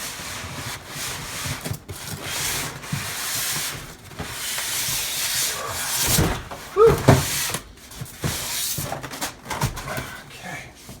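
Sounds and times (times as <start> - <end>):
packaging scraping and rustling: 0.4 - 10.3.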